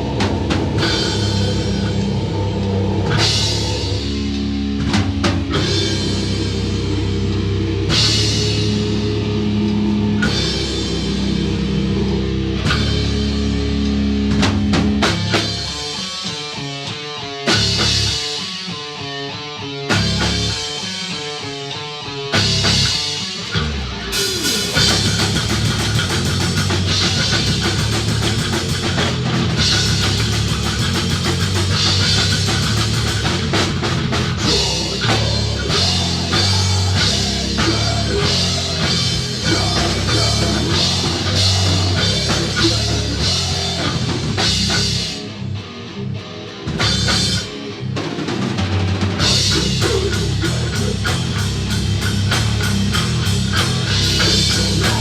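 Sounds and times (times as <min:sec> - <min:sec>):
driving drum kit: 0:00.0 - 0:55.0
guitar: 0:00.0 - 0:55.0
rock band playing live: 0:00.0 - 0:55.0.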